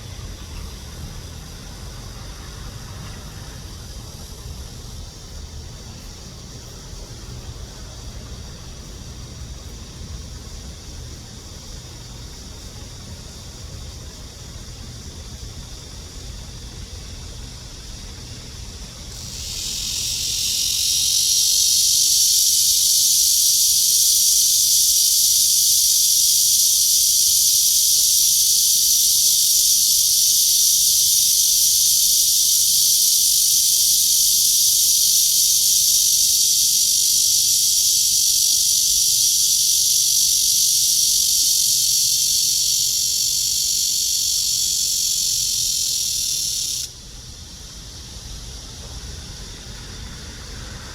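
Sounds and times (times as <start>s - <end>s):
cicada buzzing: 0.0s - 50.9s.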